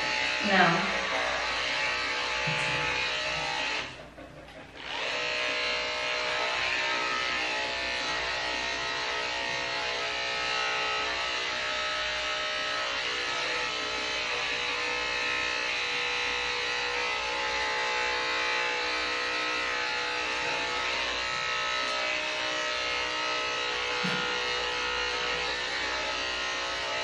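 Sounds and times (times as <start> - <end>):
electric clippers buzzing: 0.0 - 27.0.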